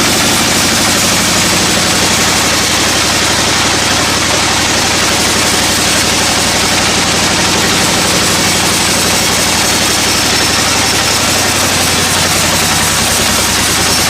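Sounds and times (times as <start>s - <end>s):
sawmill machinery engine hum: 0.0s - 14.0s.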